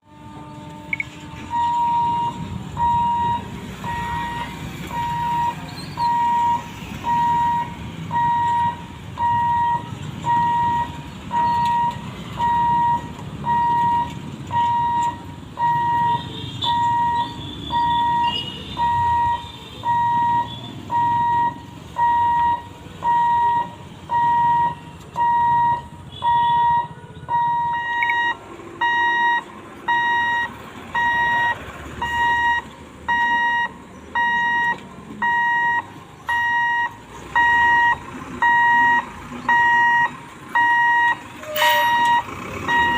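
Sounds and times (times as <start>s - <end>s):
level crossing warning beeps: 0.4s - 42.9s.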